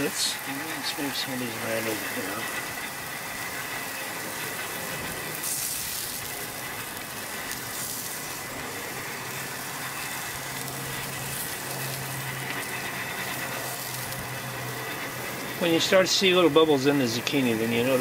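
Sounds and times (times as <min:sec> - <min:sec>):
zucchini sizzling on a grill: 0:00.0 - 0:18.0.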